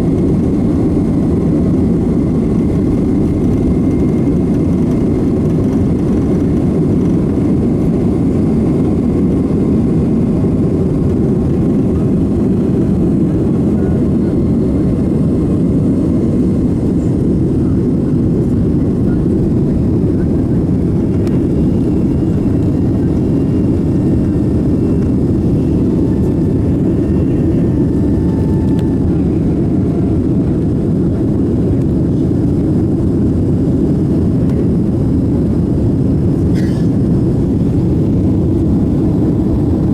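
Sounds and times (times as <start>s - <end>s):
jet cabin low rumble: 0.0s - 39.9s.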